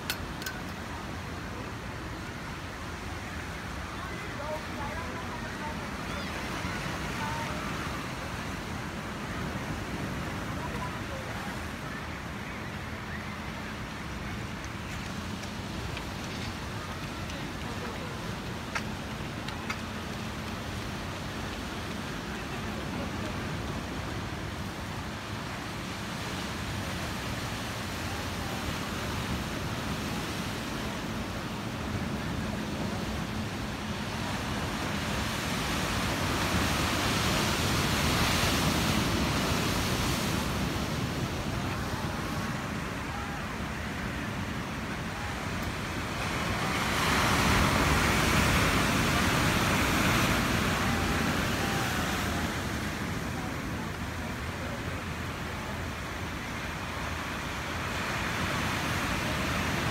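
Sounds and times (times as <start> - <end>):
ocean surf breaking over rocks: 0.0 - 59.9.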